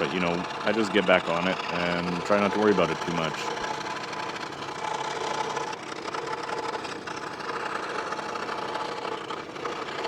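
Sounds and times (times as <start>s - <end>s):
scroll saw cutting plywood: 0.0s - 10.0s.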